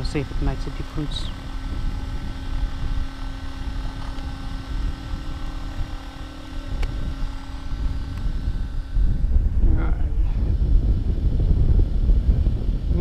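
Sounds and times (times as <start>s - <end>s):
faint steady hum: 0.0s - 13.0s
wind rumbling on microphone: 0.0s - 13.0s.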